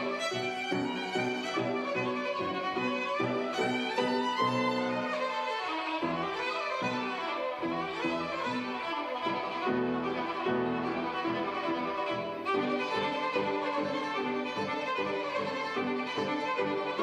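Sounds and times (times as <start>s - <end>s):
grand piano accompaniment: 0.0s - 17.0s
solo violin: 0.0s - 17.0s.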